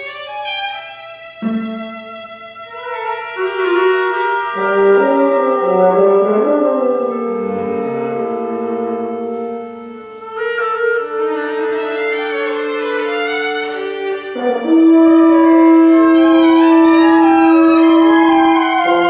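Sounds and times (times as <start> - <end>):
chamber music winds and strings: 0.0 - 19.0.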